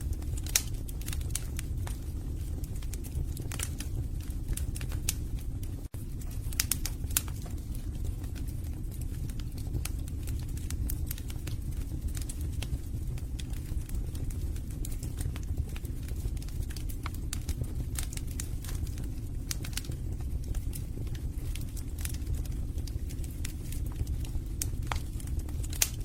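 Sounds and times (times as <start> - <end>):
logs crackling and popping: 0.0 - 26.0
low rumble of flames: 0.0 - 26.0.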